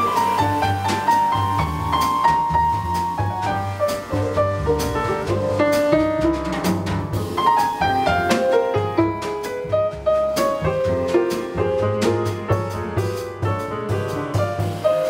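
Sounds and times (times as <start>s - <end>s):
drum kit cymbals: 0.0s - 15.0s
grand piano melody and chords: 0.0s - 15.0s
plucked double bass: 0.0s - 15.0s.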